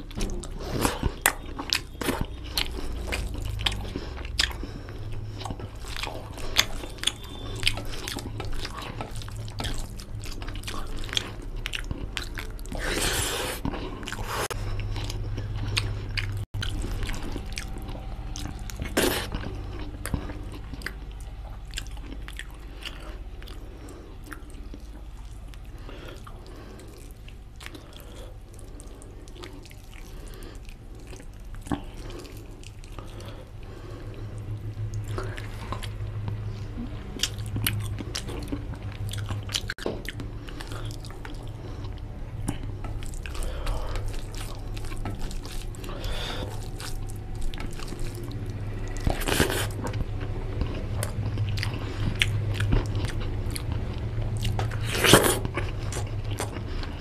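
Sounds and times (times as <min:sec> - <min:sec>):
chewing and mouth sounds: 0:00.0 - 0:57.0.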